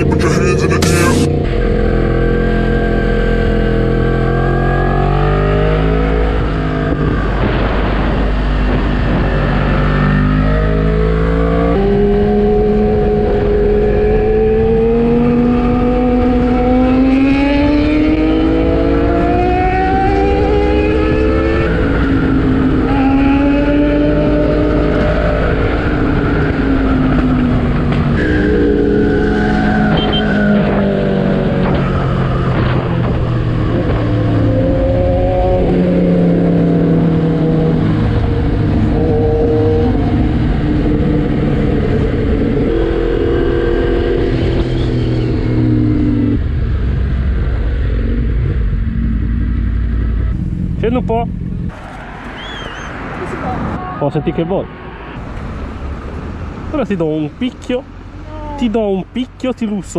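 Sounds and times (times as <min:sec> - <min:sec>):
motorcycle engine accelerating: 0:00.0 - 0:51.9
wind noise: 0:00.0 - 0:56.8.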